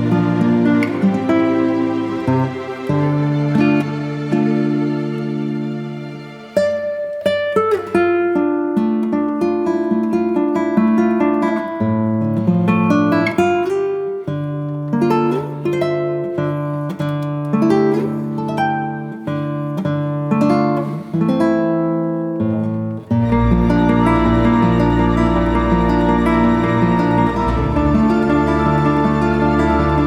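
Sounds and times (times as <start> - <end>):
acoustic guitar picking: 0.0 - 30.0.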